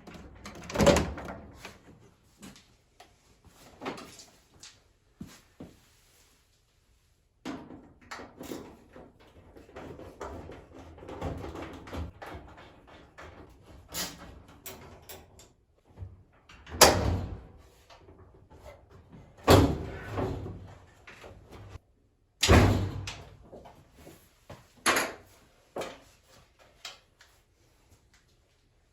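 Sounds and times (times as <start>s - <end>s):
rattling of dryer parts: 0.0s - 4.8s, 7.4s - 21.8s, 22.4s - 27.2s.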